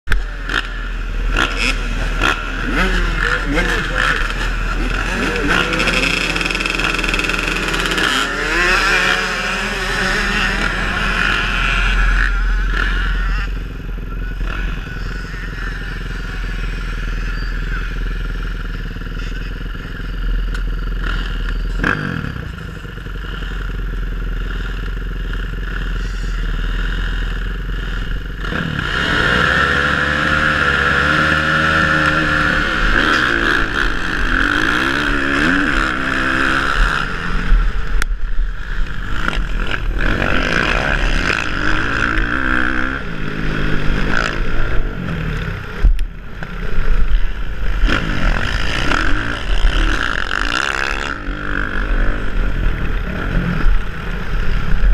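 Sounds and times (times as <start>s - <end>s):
dirt bike engines revving: 0.1s - 54.9s.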